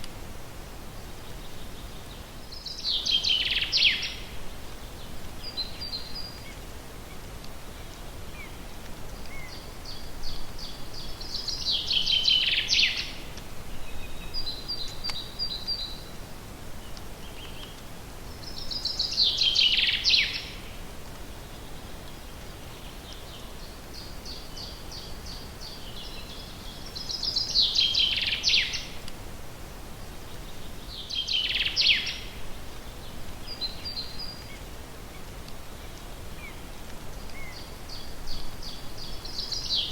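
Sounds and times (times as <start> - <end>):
faint background hiss: 0.0 - 39.9
songbird singing: 0.9 - 29.1, 29.9 - 39.9.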